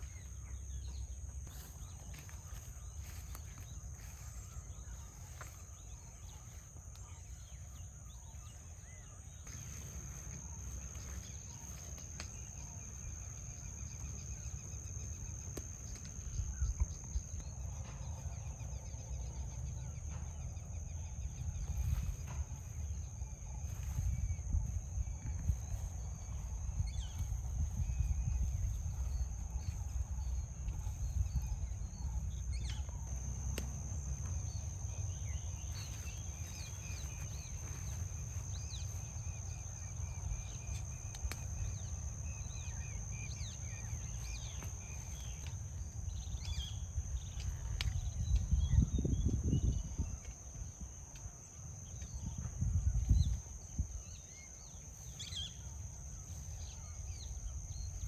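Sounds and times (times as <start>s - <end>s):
birds chirping: 0.0s - 50.8s.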